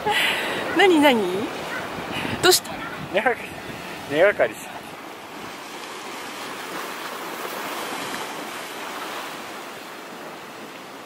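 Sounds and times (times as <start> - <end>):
surf breaking on rocks: 0.5 - 11.0.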